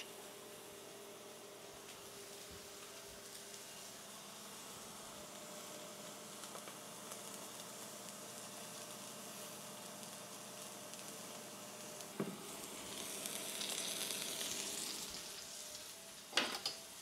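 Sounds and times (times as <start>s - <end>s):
steak sizzling in a hot pan: 2.0s - 17.0s.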